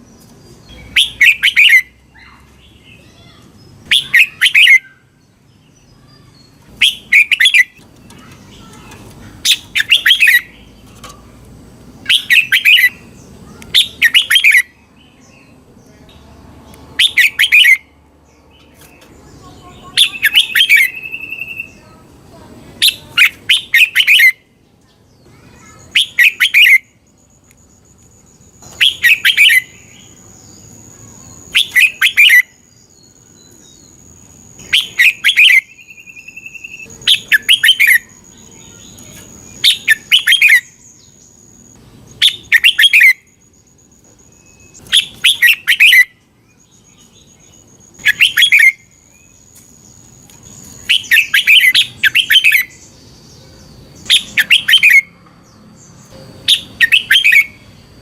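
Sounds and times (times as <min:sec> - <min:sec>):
bird singing whistled notes: 0:00.6 - 0:10.8, 0:12.0 - 0:15.6, 0:16.9 - 0:22.0, 0:22.8 - 0:24.5, 0:25.2 - 0:58.0.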